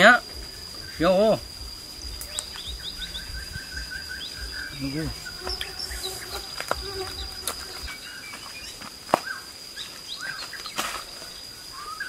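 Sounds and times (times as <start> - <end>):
birds chirping: 0.0 - 12.0
high insect drone: 0.0 - 12.0.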